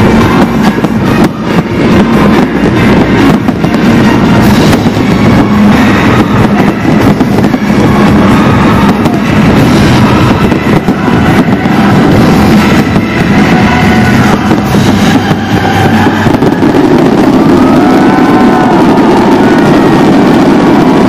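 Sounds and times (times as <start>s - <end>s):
fireworks bangs and crackling: 0.0s - 21.0s
fireworks whistling: 0.0s - 21.0s.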